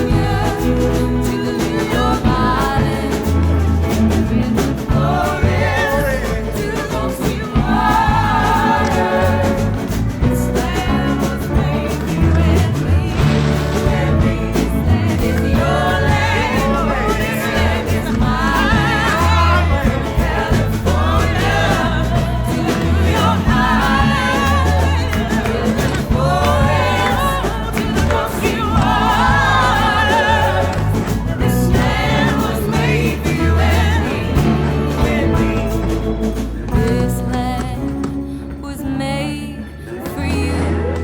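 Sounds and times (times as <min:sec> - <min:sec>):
band with steady bass line: 0:00.0 - 0:41.0
group singing: 0:00.0 - 0:41.0.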